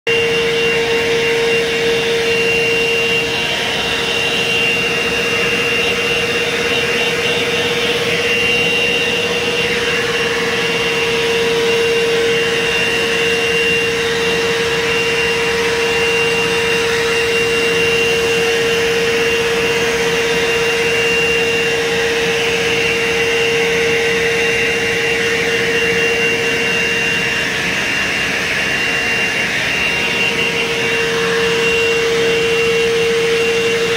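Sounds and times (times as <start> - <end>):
blow dryer running: 0.0 - 33.9.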